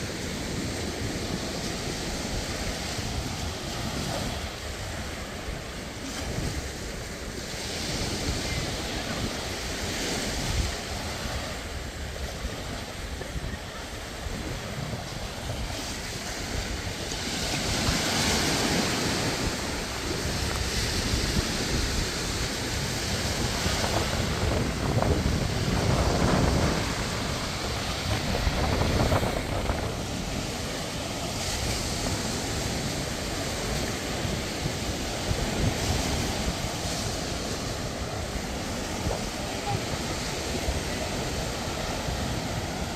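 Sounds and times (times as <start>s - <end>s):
sea surf breaking on beach: 0.0s - 42.9s
wind on microphone: 0.0s - 42.9s.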